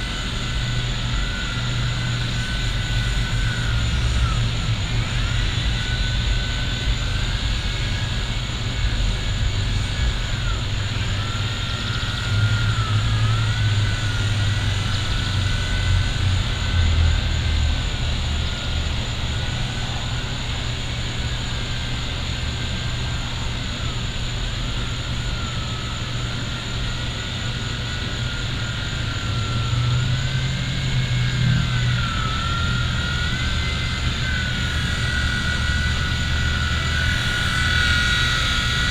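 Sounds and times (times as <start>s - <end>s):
rc helicopter motor whining: 0.0s - 38.9s.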